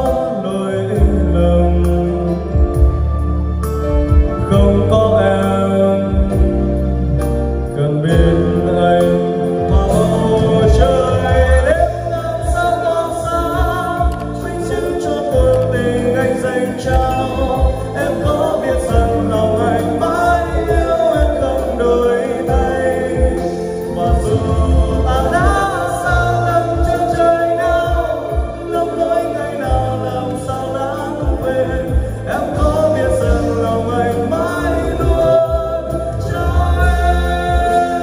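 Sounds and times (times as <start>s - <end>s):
man singing karaoke: 0.0s - 3.2s, 3.9s - 38.0s
backing track with strong bass: 0.0s - 38.0s.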